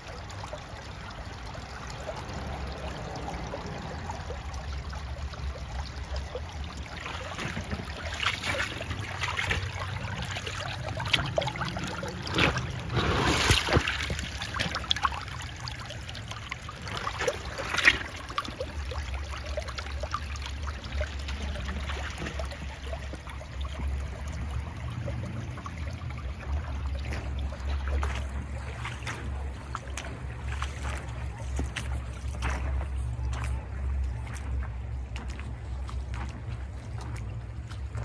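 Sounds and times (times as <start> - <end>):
low steady rumble: 0.0 - 38.0
water trickling over gravel: 0.0 - 38.0.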